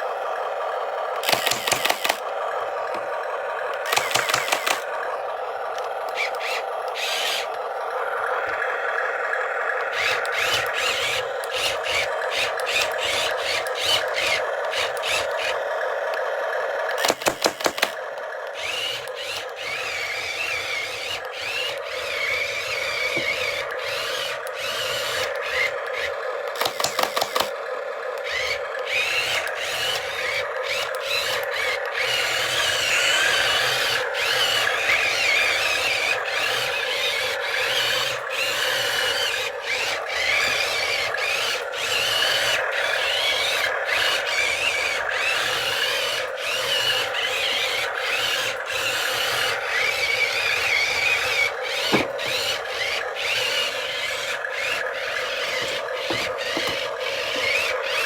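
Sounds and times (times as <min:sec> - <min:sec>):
small electric motor whirring: 0:00.0 - 0:58.0.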